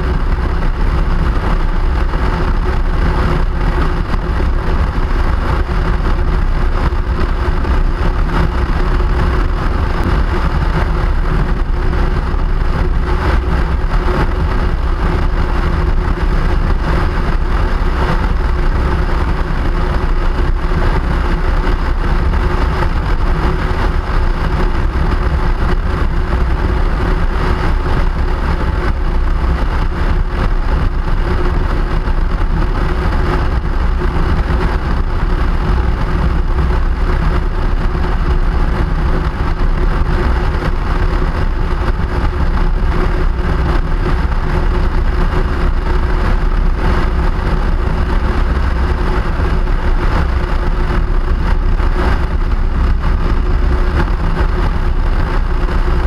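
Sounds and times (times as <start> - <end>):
vehicle travel rumble: 0.0 - 56.0.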